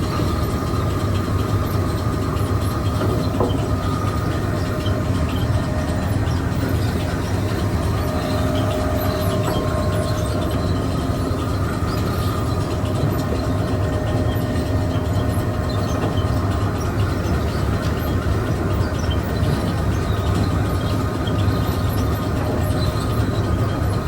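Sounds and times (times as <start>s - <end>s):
faint whining tones: 0.0s - 24.0s
grain mill machinery humming: 0.0s - 24.0s.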